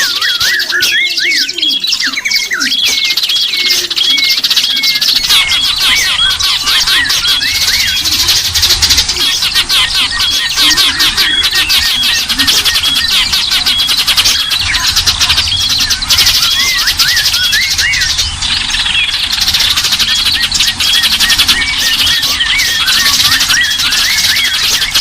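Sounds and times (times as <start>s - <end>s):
bird chirps rising and falling: 0.0s - 25.0s
high whistled bird notes: 0.0s - 25.0s
songbirds chattering trill: 0.0s - 25.0s.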